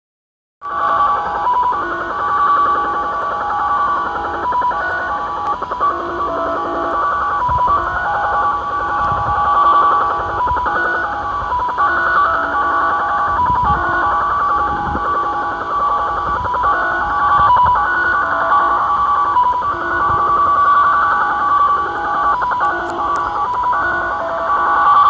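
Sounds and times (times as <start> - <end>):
radio static hiss: 0.6 - 25.0
warbling multi-tone data signal: 0.6 - 25.0.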